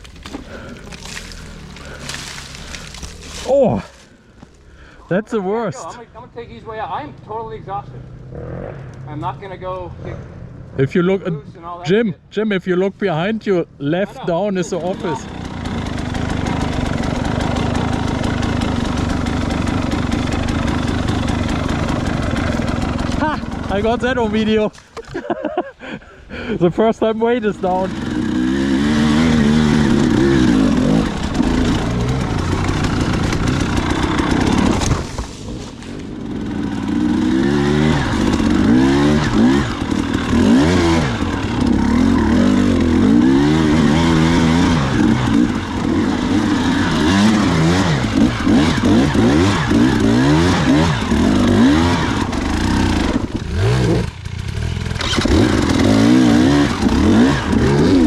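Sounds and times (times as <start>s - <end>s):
dirt bike engine revving: 0.4s - 6.0s, 7.8s - 10.4s, 13.9s - 24.6s, 27.3s - 58.0s.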